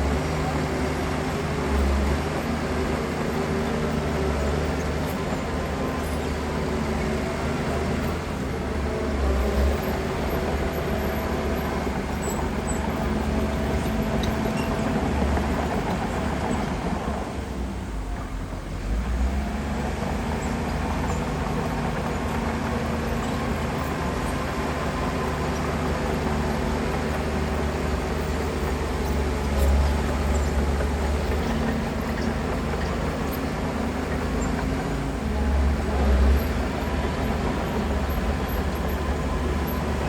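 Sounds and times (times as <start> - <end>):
heavy diesel engine rumbling: 0.0 - 40.0.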